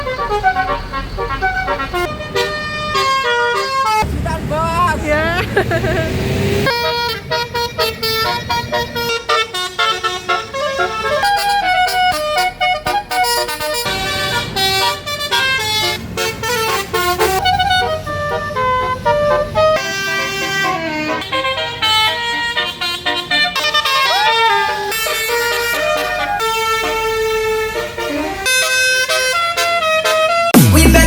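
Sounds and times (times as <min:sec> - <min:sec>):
musical air horn melody: 0:00.0 - 0:04.0, 0:06.7 - 0:31.0.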